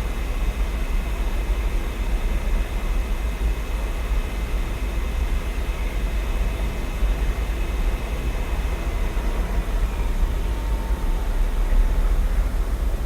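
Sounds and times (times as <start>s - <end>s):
low rumble of city noise: 0.0s - 13.0s
laptop cooling fan whirring: 1.4s - 13.0s.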